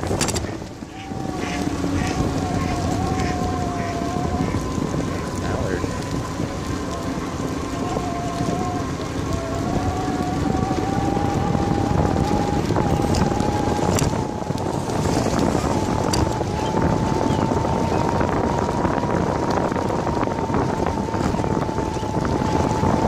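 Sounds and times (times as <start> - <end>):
bicycle tyre noise: 0.0 - 23.0
thin rising whine: 0.0 - 23.0
wind rushing on microphone: 0.0 - 23.0.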